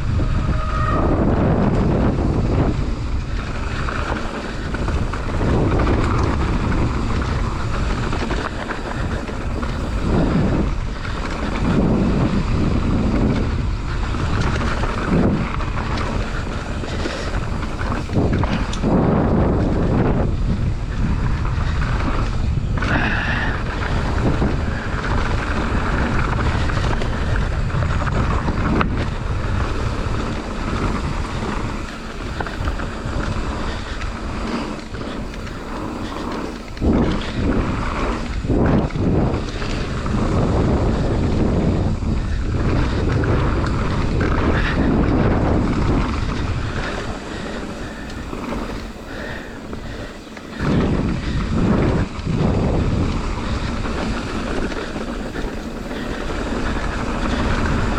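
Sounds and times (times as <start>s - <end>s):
bike rumbling over ground: 0.0s - 57.9s
wind buffeting microphone: 0.0s - 57.9s.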